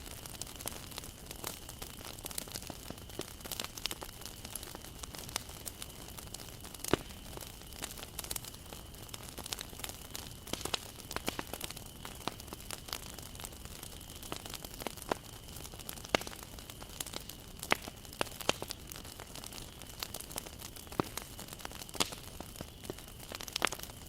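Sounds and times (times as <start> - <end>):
bonfire pops and snaps: 0.0 - 24.0
low fire hiss: 0.0 - 24.0.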